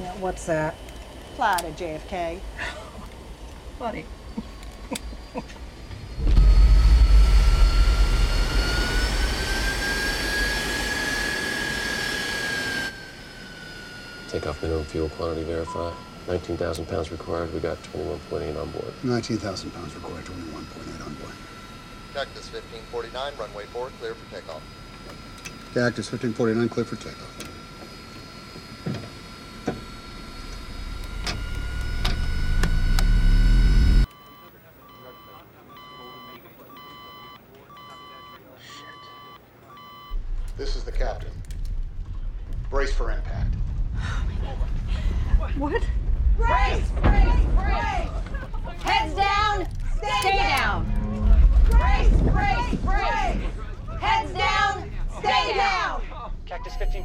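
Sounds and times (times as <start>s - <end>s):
jet engines rumbling: 0.0s - 56.9s
high engine whine: 0.0s - 57.0s.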